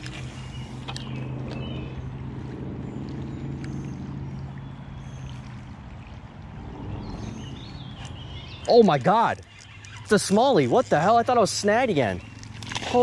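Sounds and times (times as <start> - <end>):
creek water gurgling: 0.0 - 13.0.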